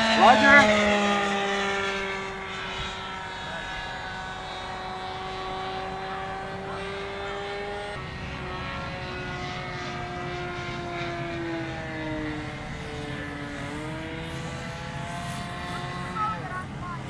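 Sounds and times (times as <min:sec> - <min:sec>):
model airplane motor droning: 0:00.0 - 0:17.0.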